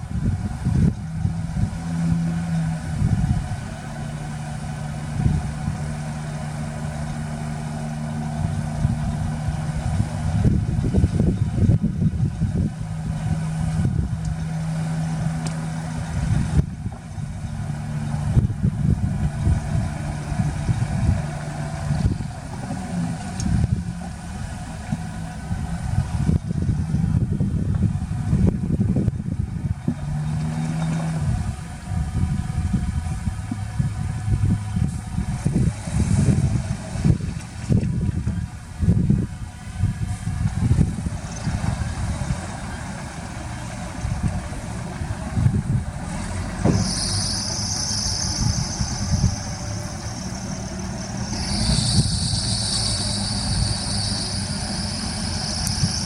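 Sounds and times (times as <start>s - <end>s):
heavy machinery diesel engines rumbling: 0.0s - 56.0s.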